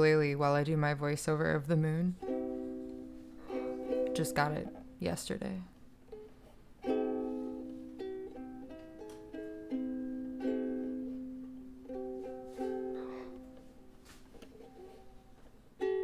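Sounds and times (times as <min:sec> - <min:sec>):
ukulele strummed slowly: 0:02.2 - 0:05.0, 0:05.8 - 0:16.0.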